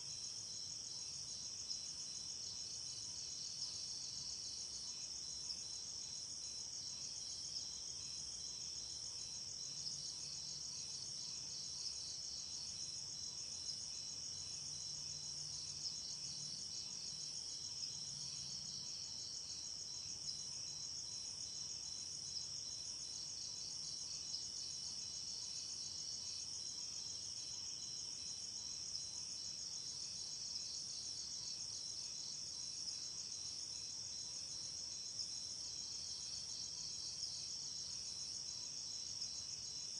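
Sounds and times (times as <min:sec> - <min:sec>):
crickets chirping: 0:00.0 - 0:39.9
lower pulsing insect trill: 0:00.0 - 0:39.9.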